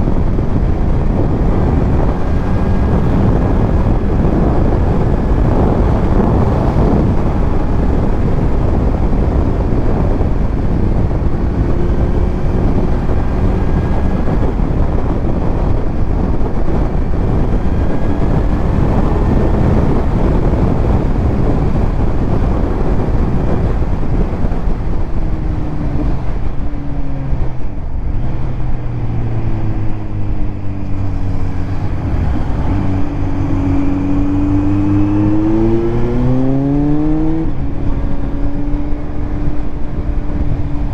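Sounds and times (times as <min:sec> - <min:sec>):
motorcycle engine: 0:00.0 - 0:40.9
wind rush: 0:00.0 - 0:40.9.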